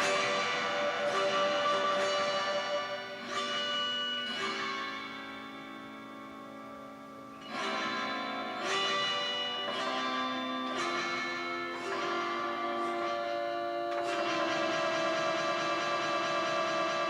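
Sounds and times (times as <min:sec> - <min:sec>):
autoharp chords strummed: 0:00.0 - 0:17.0.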